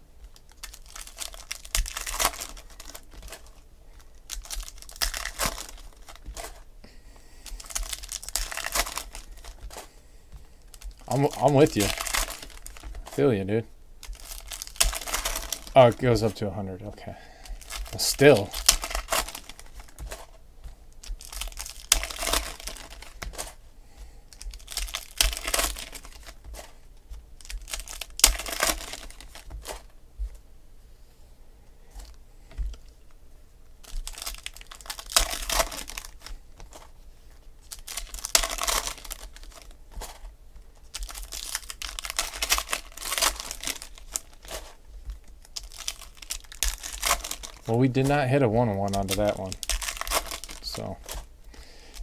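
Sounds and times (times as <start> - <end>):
foil packs tearing and crinkling: 0.3 - 6.7, 7.4 - 10.0, 10.6 - 16.4, 17.2 - 20.4, 21.0 - 23.6, 24.3 - 26.8, 27.4 - 29.9, 33.8 - 36.9, 37.6 - 52.0.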